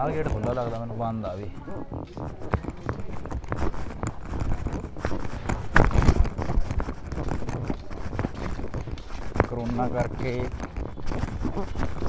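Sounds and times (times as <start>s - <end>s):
footsteps on concrete steps: 0.0s - 12.0s
low microphone rumble: 0.0s - 12.0s.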